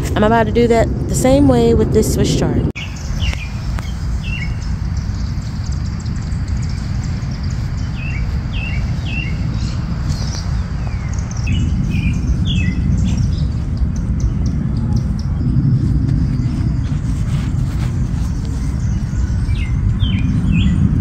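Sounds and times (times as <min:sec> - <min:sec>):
low rumble: 0:00.0 - 0:21.0
small birds chirping: 0:00.3 - 0:21.0.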